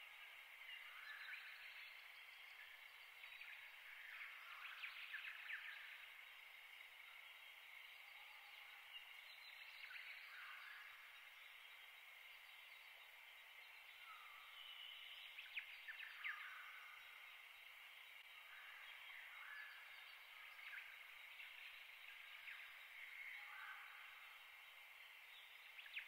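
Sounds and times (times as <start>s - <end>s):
faint ambient hiss: 0.0s - 26.0s.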